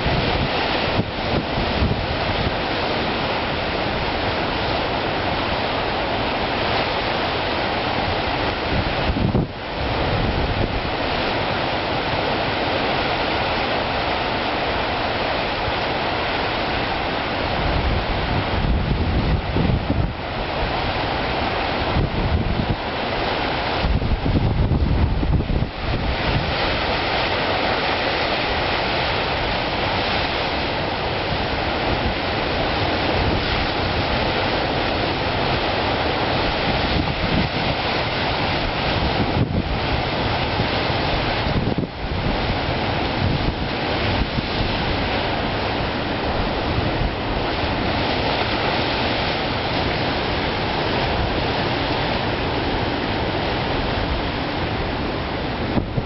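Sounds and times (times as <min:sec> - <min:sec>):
ocean waves breaking on rocks: 0:00.0 - 0:56.0.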